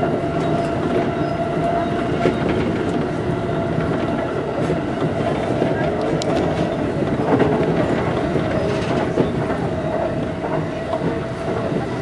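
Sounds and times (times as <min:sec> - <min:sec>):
electric train running whine: 0:00.0 - 0:12.0
wheels clattering over rails: 0:00.0 - 0:12.0.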